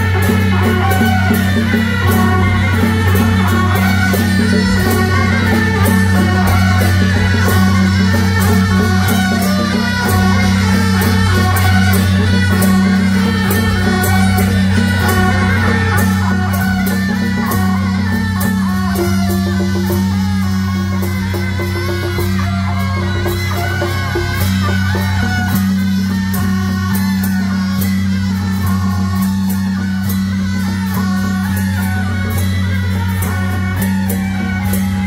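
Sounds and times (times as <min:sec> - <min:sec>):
gongs and cymbals beat: 0:00.0 - 0:35.0
shrill reed horns melody: 0:00.0 - 0:35.0.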